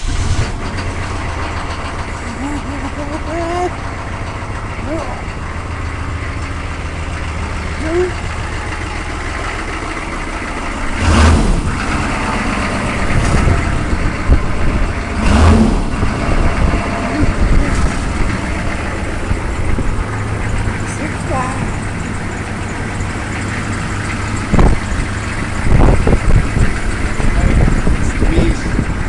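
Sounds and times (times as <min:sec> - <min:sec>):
diesel engine idling: 0:00.0 - 0:29.0
loud engine bursts: 0:00.0 - 0:29.0.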